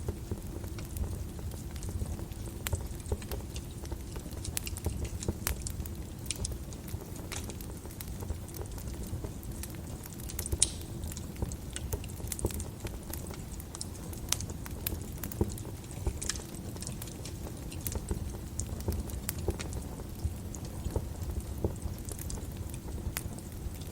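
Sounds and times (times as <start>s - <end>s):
burning logs crackling and popping: 0.0s - 23.9s
flames rumbling: 0.0s - 23.9s.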